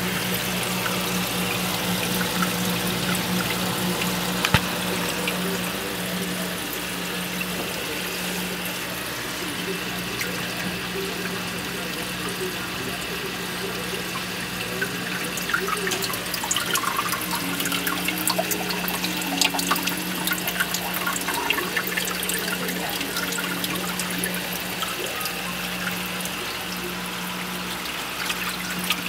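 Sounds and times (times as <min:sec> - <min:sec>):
water splashing and trickling: 0:00.0 - 0:29.0.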